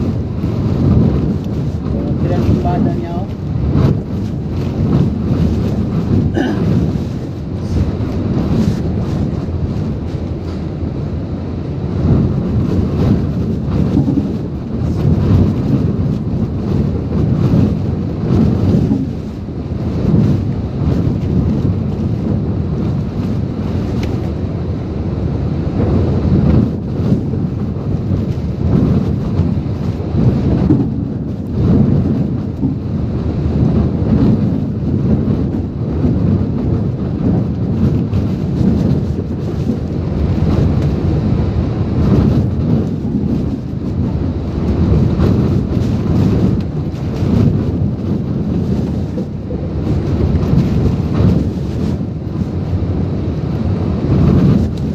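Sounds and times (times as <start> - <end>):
driving rain: 0.0 - 54.9
wind buffeting microphone: 0.0 - 54.9.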